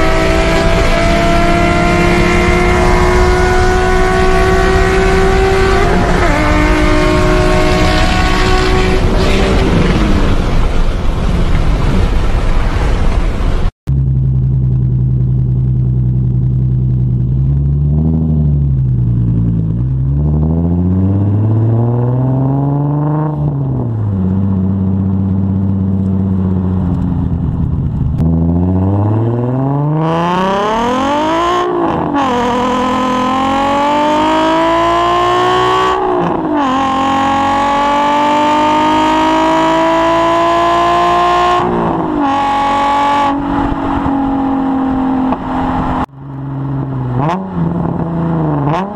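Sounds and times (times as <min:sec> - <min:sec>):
car engine revving and accelerating: 0:00.0 - 0:11.0, 0:15.5 - 0:26.4, 0:28.2 - 0:48.9.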